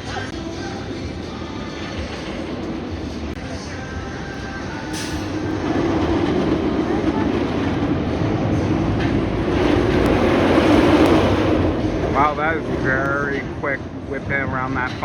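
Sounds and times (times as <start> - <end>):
roller coaster train roaring on track: 0.0 - 15.0.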